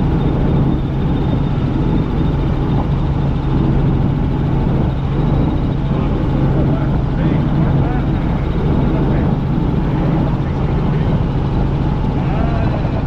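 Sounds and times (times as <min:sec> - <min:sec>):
helicopter rotor and engine drone: 0:00.0 - 0:13.0.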